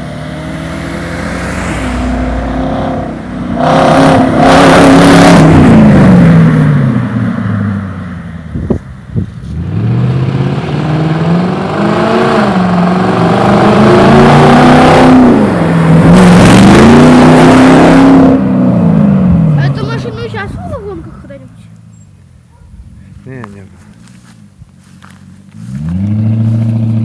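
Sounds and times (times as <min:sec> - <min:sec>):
car engine revving: 0:00.0 - 0:21.8, 0:23.4 - 0:27.0.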